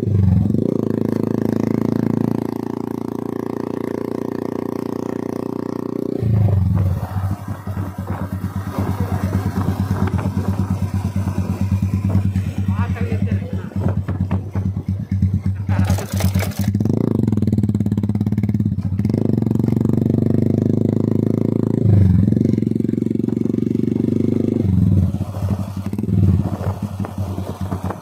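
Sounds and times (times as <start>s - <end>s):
motorcycle engine riding: 0.0s - 28.0s.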